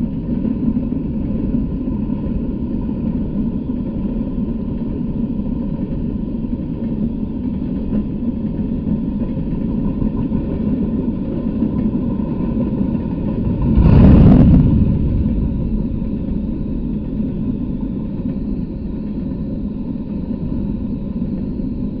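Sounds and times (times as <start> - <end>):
train wheels rumbling on rail: 0.0 - 21.6.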